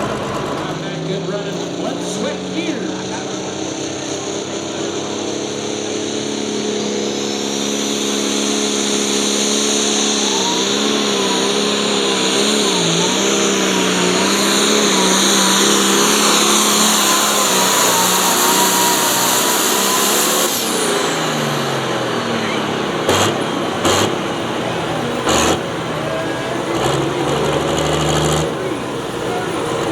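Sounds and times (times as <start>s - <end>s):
vehicle engine running at full load: 0.0s - 29.9s.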